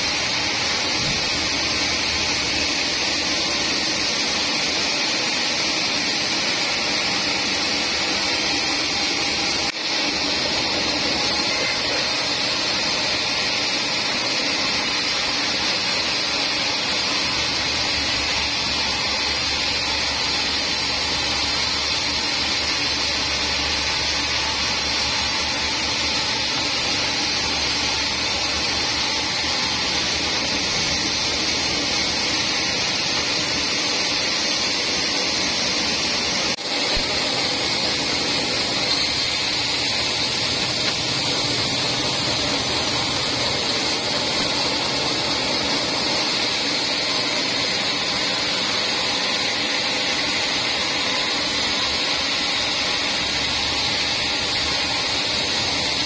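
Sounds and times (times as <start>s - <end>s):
band saw cutting log: 0.0s - 56.0s
machine hum: 0.0s - 56.0s.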